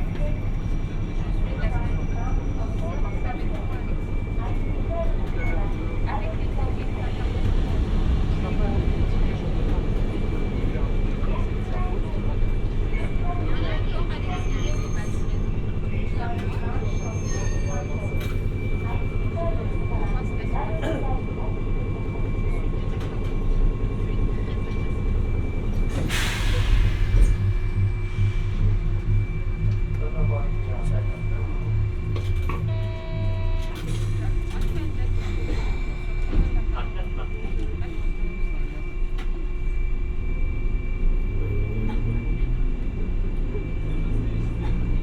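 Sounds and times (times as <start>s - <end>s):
tram rumbling on track: 0.0s - 45.0s.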